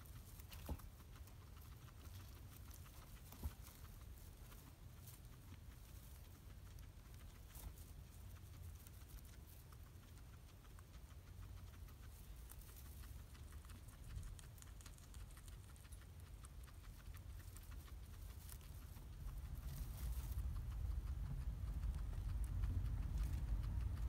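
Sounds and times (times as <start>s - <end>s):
guinea pig munching hay: 0.0s - 24.0s
low steady rumble: 0.0s - 24.0s.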